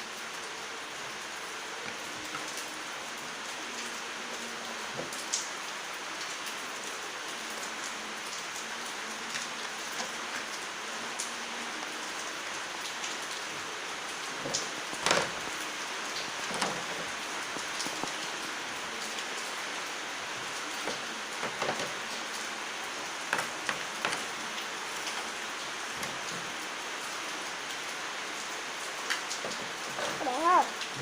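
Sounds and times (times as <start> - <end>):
rain-like hiss: 0.0 - 31.0.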